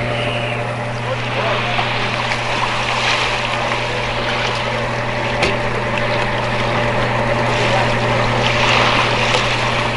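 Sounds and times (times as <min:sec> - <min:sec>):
low motor drone: 0:00.0 - 0:09.9.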